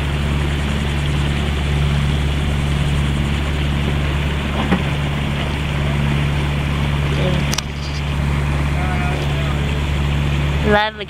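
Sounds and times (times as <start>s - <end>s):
boat engine running: 0.0s - 11.0s
rush of water noise: 0.0s - 11.0s.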